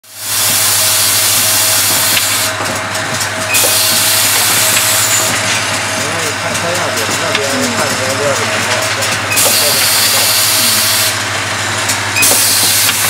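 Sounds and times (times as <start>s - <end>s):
low machine hum: 0.1s - 13.0s.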